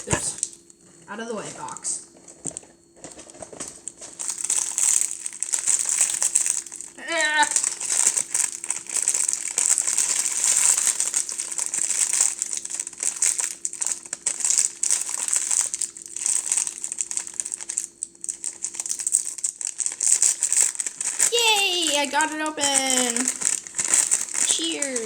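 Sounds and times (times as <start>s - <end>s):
plastic packaging crinkling: 0.0s - 0.8s, 1.6s - 25.0s
faint steady hum: 0.0s - 25.0s.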